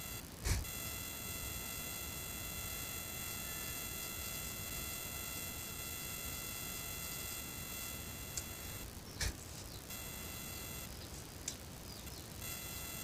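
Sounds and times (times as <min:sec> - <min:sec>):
background hiss: 0:00.0 - 0:13.0
high electronic whine: 0:00.0 - 0:13.0.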